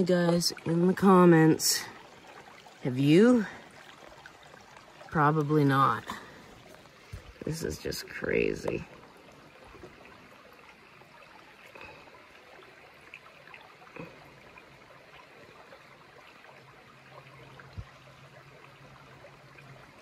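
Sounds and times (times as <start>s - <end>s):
stream trickling over rocks: 0.0s - 20.0s.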